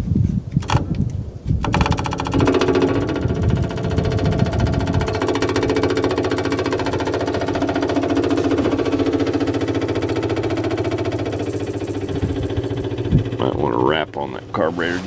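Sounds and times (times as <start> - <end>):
electric fuel pump ticking: 0.6 - 15.0.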